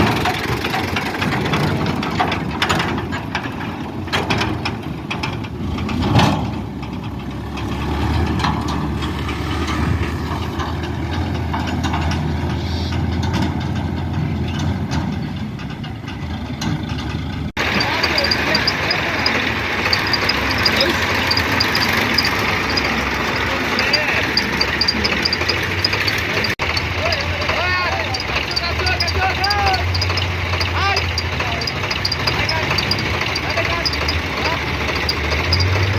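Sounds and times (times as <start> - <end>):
heavy vehicle engine idling: 0.0 - 35.9
knocks and clanks: 0.0 - 35.9.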